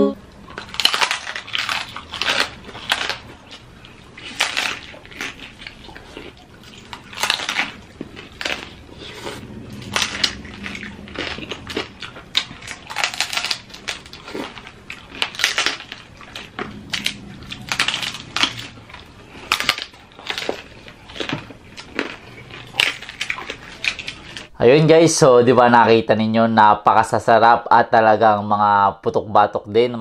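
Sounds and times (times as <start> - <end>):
people chewing crunchy food: 0.2 - 24.6.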